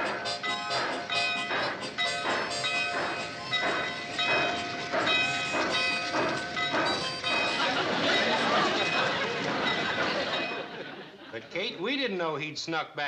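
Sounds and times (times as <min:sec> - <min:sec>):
sustained tones: 0:00.0 - 0:10.8
steam locomotive chuffing: 0:00.0 - 0:11.3.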